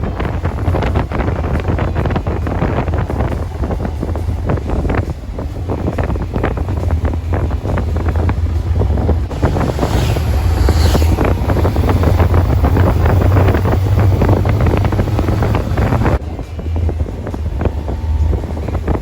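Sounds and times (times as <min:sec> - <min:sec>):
low motorcycle drone: 0:00.0 - 0:19.0
wind buffeting microphone: 0:00.0 - 0:19.0.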